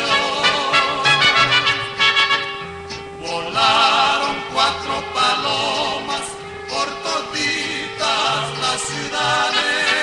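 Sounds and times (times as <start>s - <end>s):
man singing with vibrato: 0.0s - 10.0s.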